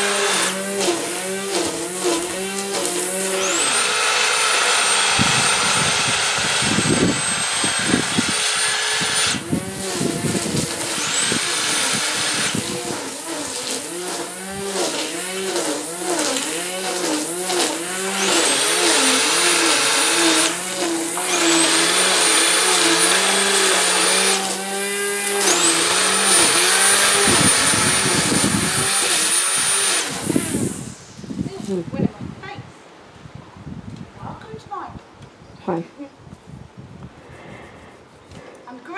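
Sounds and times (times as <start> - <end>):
electric grass trimmer motor whine: 0.0 - 31.5.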